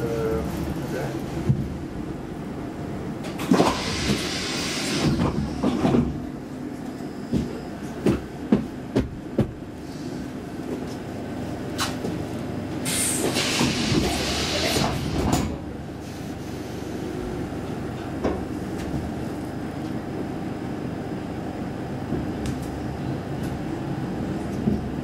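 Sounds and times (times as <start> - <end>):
railcar hum: 0.0 - 25.0.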